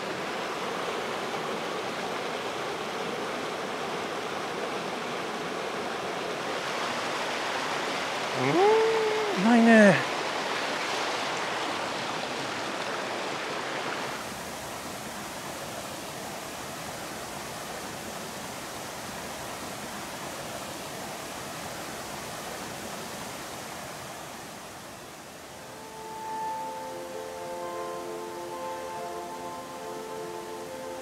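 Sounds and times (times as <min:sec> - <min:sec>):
stream water rushing over rocks: 0:00.0 - 0:31.0.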